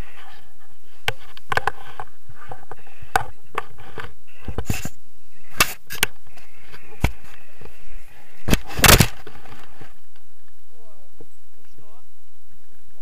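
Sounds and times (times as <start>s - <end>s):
wind buffeting camera: 0.0s - 13.0s.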